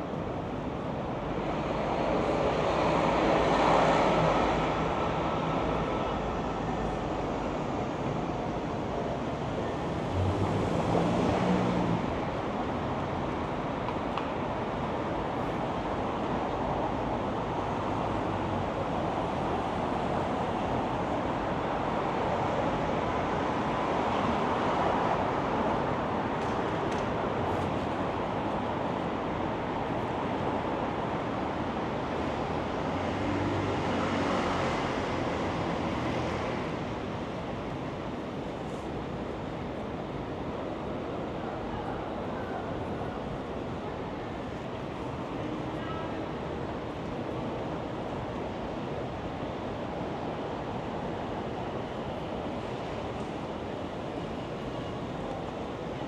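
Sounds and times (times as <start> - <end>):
passing vehicles: 0.0 - 56.0.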